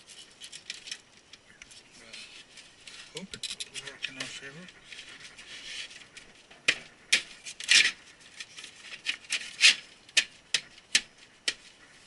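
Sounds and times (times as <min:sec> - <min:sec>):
plastic and metal scraping: 0:00.0 - 0:12.0.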